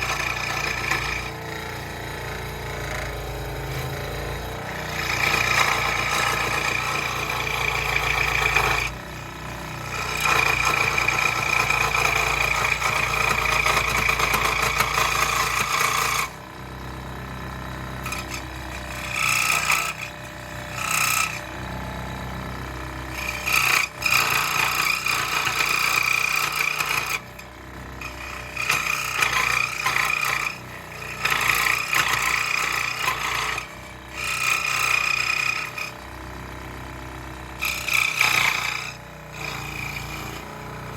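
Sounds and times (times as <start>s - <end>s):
saw blade rasping through wood: 0.0s - 40.9s
scroll saw motor humming: 0.0s - 40.9s.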